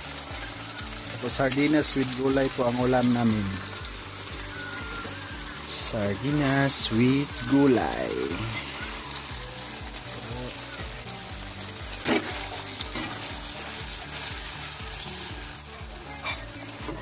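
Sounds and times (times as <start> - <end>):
fish sizzling in a frying pan: 0.0 - 17.0.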